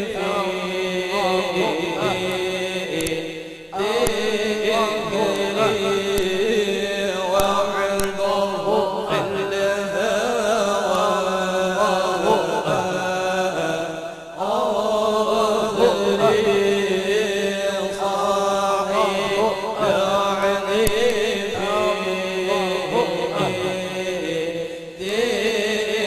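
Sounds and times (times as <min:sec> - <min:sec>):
men chanting through microphones: 0:00.0 - 0:26.0.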